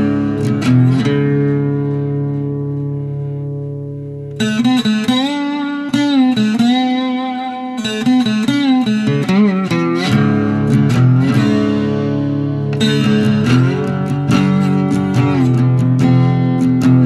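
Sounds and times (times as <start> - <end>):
plucked string music: 0.0 - 17.0.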